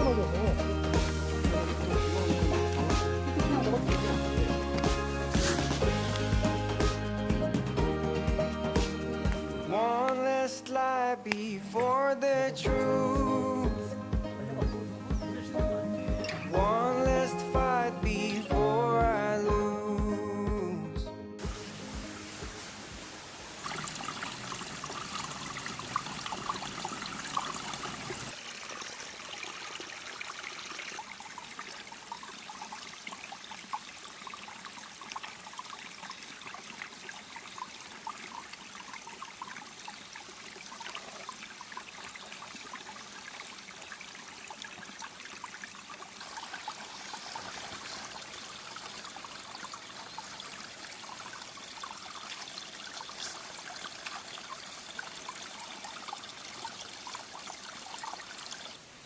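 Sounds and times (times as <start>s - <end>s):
water trickling and splashing: 0.0s - 19.7s, 21.4s - 59.0s.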